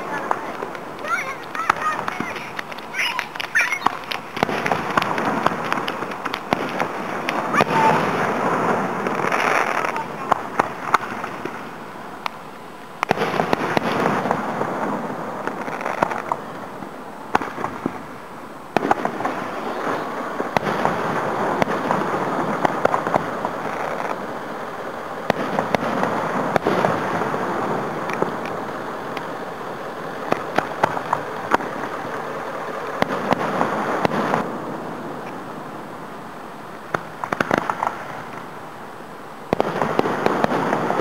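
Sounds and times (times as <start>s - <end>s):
firework shells bursting: 0.0s - 36.0s, 36.8s - 38.8s, 39.5s - 41.0s
distant firework noise: 0.0s - 41.0s.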